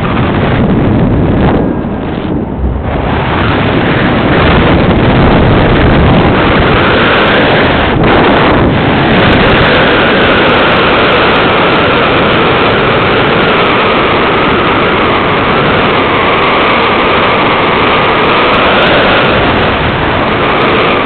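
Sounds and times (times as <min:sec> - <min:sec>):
rush of air in flight: 0:00.0 - 0:21.0.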